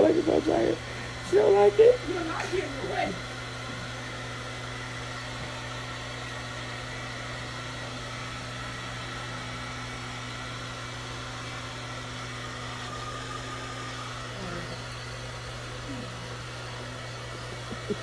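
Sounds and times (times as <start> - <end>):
blow dryer running: 0.0 - 18.0.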